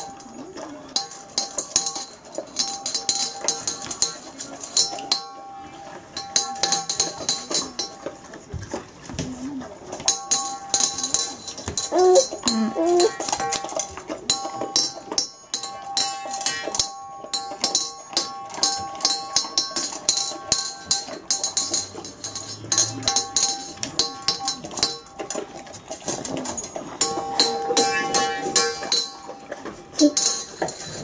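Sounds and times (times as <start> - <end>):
dog eating from metal bowl: 0.0 - 31.0
faint music with held notes: 0.0 - 31.0.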